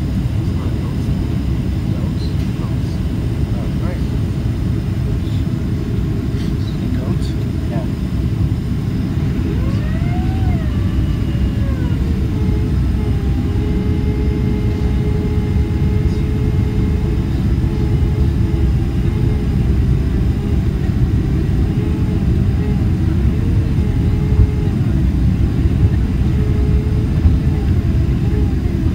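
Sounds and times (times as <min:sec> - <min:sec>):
airplane cabin airflow rush: 0:00.0 - 0:28.9
engine hum: 0:00.0 - 0:28.9.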